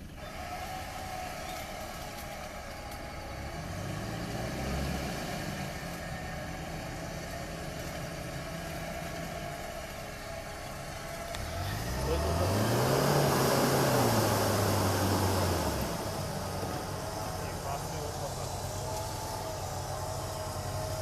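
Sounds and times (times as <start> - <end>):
engine whine: 0.0 - 21.0
vehicle engine running: 0.0 - 21.0.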